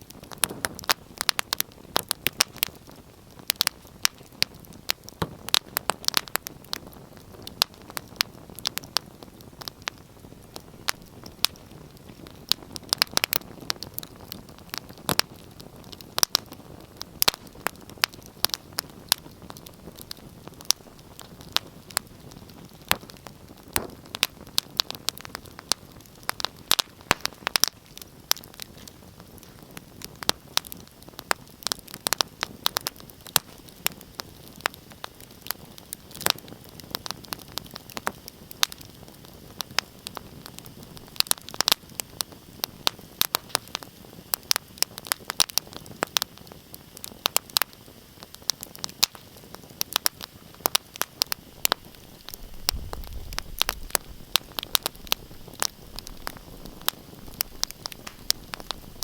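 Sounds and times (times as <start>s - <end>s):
hiss of flame: 0.0s - 59.0s
wood fire crackling and popping: 0.0s - 59.0s.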